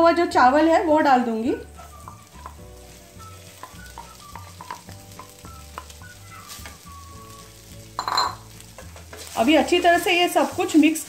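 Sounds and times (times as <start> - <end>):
light sizzle of oil: 0.0 - 11.0.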